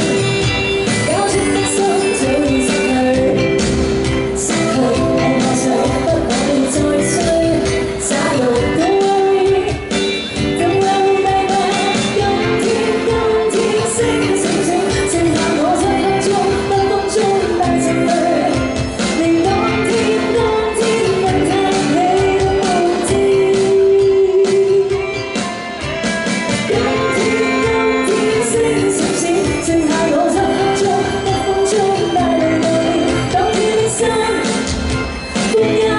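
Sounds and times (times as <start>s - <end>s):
woman singing into microphone: 0.0s - 25.3s, 26.6s - 35.9s
backing music with steady beat: 0.0s - 35.9s.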